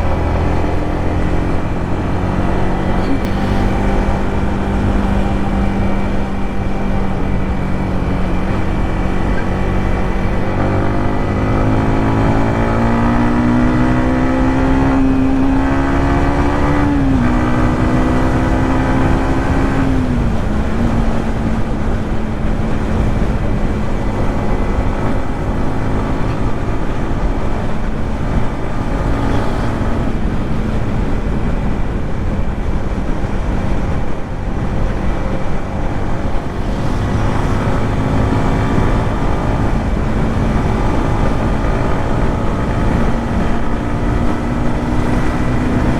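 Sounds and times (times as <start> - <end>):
motorcycle engine and exhaust: 0.0 - 45.9
wind rush on microphone: 0.0 - 45.9.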